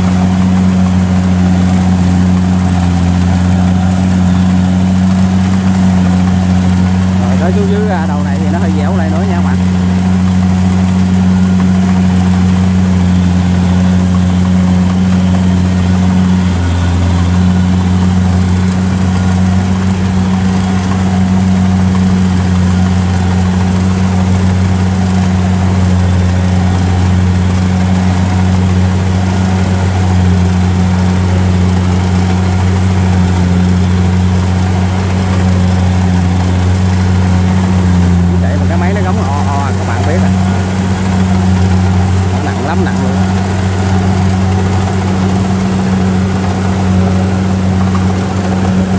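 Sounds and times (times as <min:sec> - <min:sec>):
combine harvester diesel engine running: 0:00.0 - 0:48.9.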